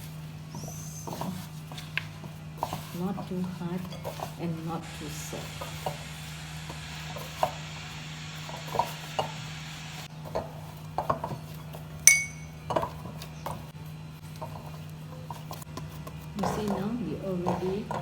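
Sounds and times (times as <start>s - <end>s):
dough kneaded by hand: 0.0s - 18.0s.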